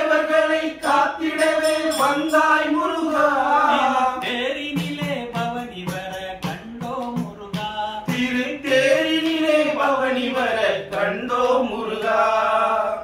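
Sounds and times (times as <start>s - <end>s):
steady percussive beat: 0.0s - 12.0s
men singing together: 0.0s - 13.0s.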